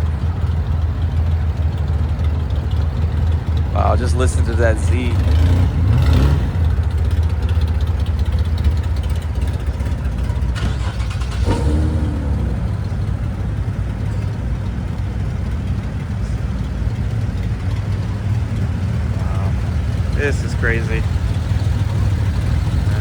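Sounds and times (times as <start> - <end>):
sports car engine rumbling: 0.0 - 23.0.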